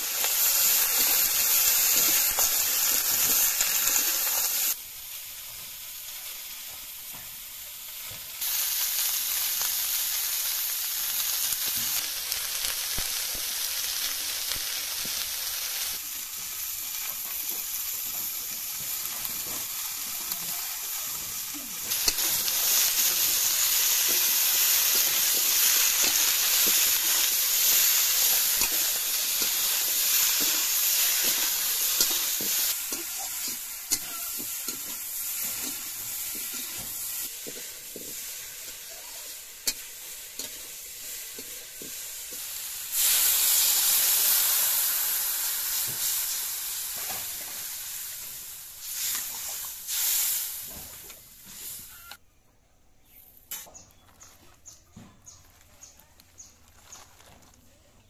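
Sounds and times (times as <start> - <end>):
food sizzling in a wok: 0.0 - 52.2.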